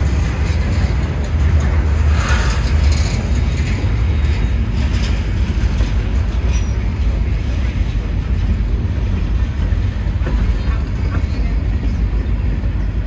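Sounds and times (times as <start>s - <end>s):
train rattling and hiss: 0.0s - 13.0s
train wheels rumbling on rail: 0.0s - 13.0s.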